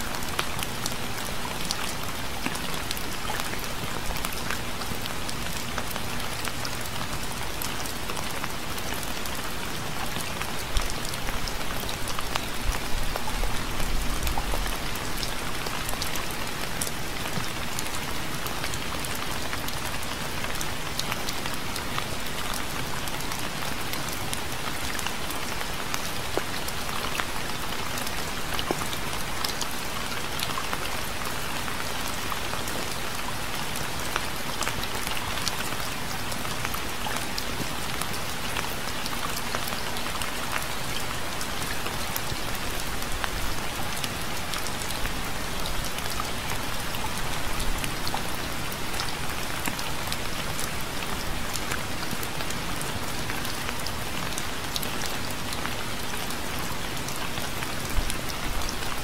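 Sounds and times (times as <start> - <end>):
gentle rain: 0.0 - 59.0.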